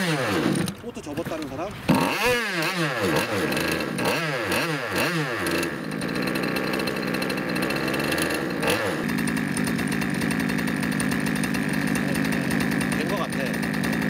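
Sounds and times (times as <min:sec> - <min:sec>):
two-stroke boat engine running: 0:00.0 - 0:14.0.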